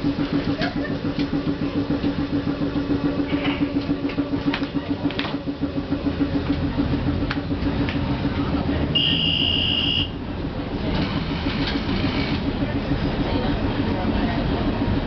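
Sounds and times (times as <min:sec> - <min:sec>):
streetcar low pulsing hum: 0:00.0 - 0:15.0.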